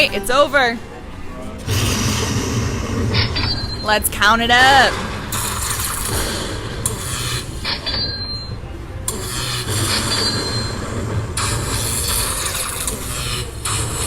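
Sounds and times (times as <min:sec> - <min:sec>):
casino electronic din: 0:01.6 - 0:14.0.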